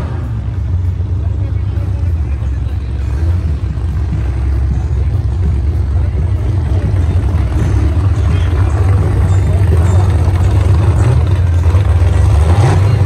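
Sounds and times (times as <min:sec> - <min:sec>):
engine deep low rumble: 0:00.0 - 0:13.0.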